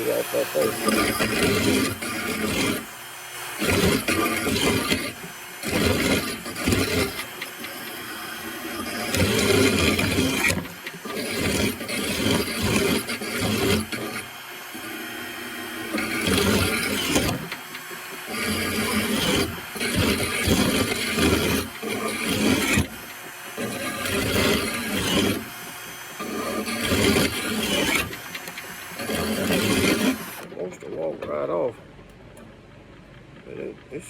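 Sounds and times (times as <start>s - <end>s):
electric drill grinding steel blade: 0.0s - 31.7s.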